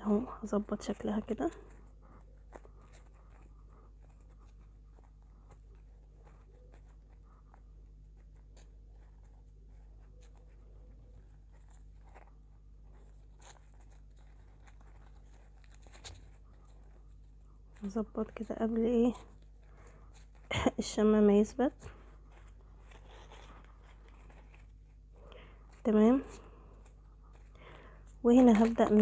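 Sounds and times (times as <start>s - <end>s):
faint rustling and finger clicks: 0.0s - 29.0s
low steady hum: 0.0s - 29.0s.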